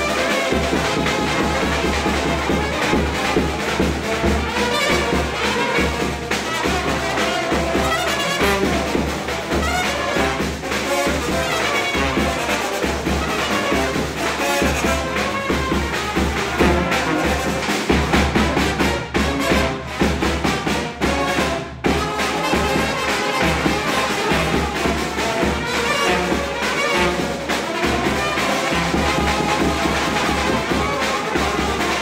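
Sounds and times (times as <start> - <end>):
brass band playing lively tune: 0.0 - 32.0.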